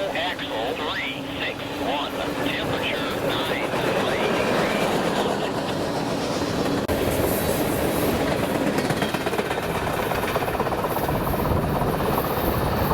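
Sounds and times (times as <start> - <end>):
freight train wheels rumbling: 0.0 - 12.9.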